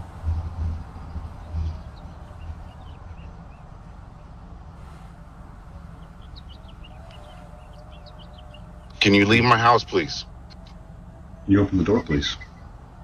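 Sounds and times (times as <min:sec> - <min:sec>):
faint steady hum: 0:00.0 - 0:13.0
low rumble and hiss: 0:00.0 - 0:13.0
small birds chirping: 0:00.0 - 0:13.0.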